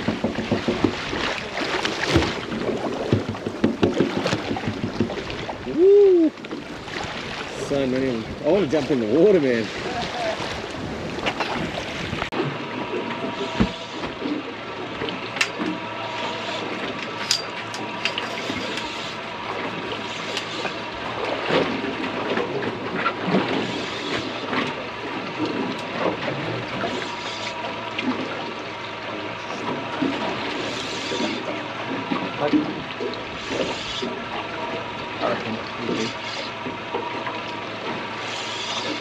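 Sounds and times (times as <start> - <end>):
water rushing and gurgling: 0.0 - 39.0.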